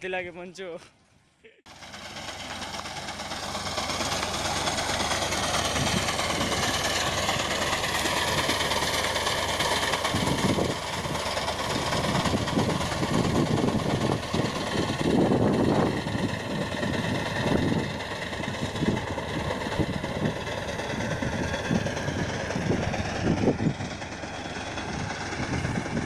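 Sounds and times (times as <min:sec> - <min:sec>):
tractor diesel engine under load: 0:01.6 - 0:26.0
reaper cutting wheat: 0:01.7 - 0:26.0.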